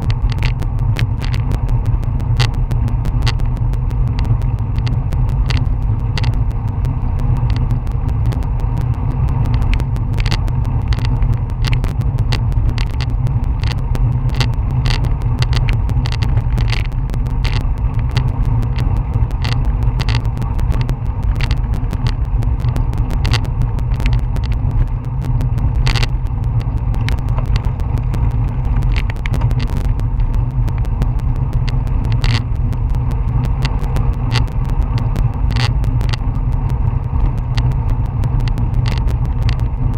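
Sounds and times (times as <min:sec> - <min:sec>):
sharp clicks and knocks: 0:00.0 - 0:39.9.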